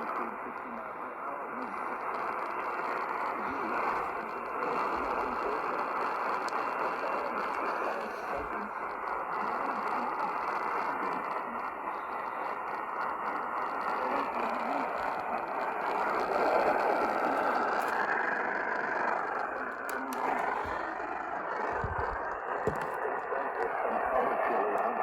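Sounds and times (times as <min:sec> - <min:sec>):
faint crackles: 0:00.0 - 0:25.0
radio static hiss: 0:00.0 - 0:25.0.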